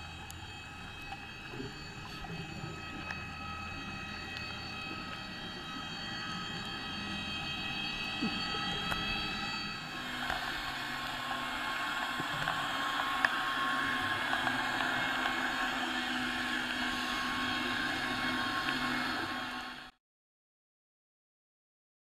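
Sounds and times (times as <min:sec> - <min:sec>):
underwater mechanical drone with hiss: 0:00.0 - 0:20.0.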